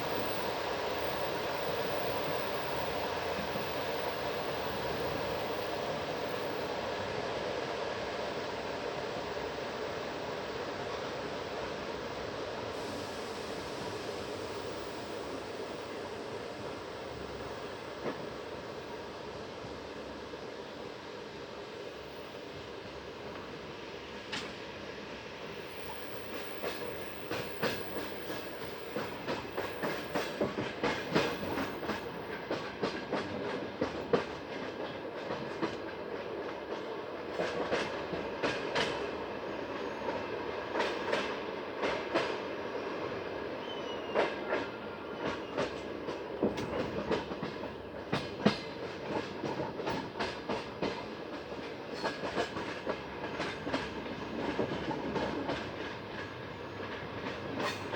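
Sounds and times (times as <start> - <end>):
train rolling rumble: 0.0 - 57.9.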